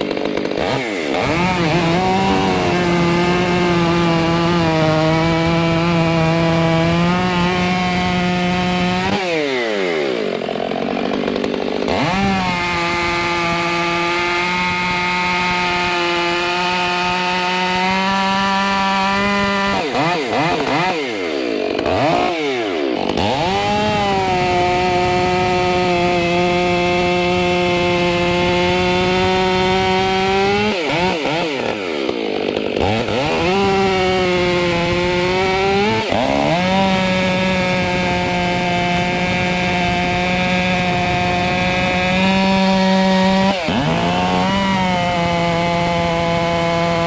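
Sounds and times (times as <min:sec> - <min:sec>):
chainsaw cutting logs: 0:00.0 - 0:47.0.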